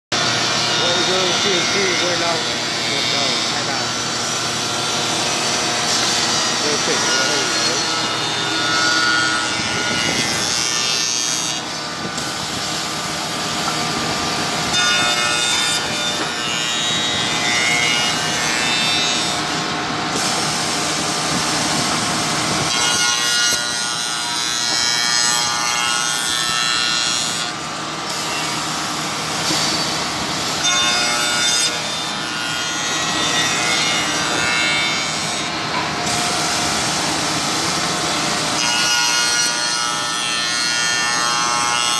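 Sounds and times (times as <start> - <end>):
machine milling wood: 0.2 - 41.9.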